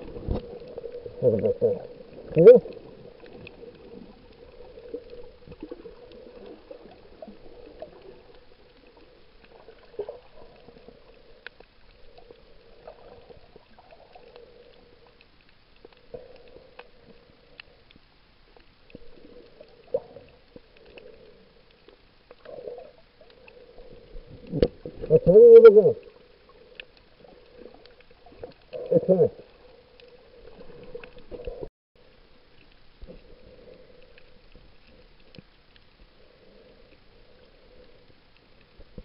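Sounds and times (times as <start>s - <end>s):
muffled underwater water movement: 0.0s - 39.0s.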